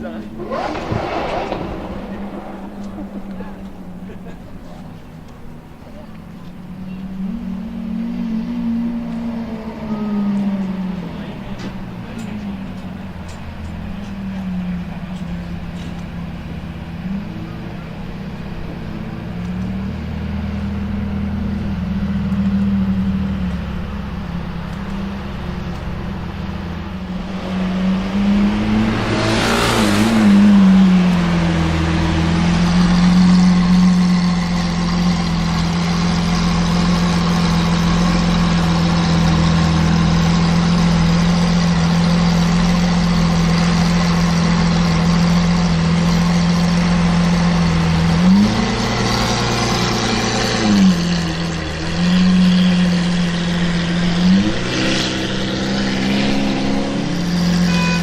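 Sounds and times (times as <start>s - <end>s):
sports car engine idling and revving: 0.0s - 58.0s.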